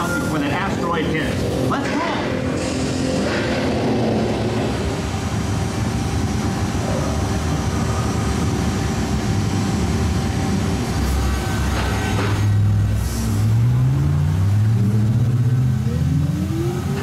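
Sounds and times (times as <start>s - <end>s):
ride vehicle rumble: 0.0s - 17.0s.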